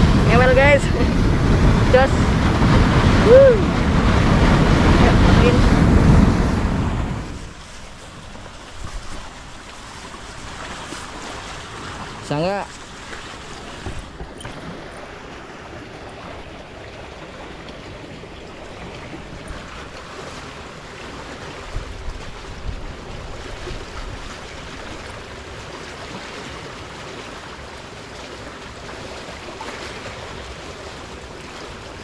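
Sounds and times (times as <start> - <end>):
flowing water rushing: 0.0 - 32.0.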